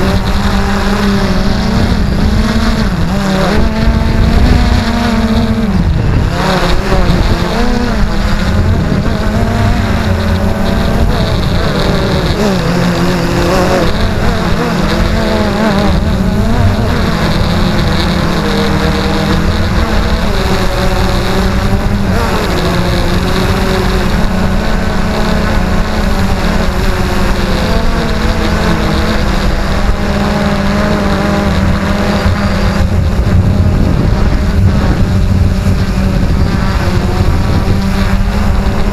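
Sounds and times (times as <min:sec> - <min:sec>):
drone propellers whirring: 0:00.0 - 0:38.9
wind noise on microphone: 0:00.0 - 0:38.9.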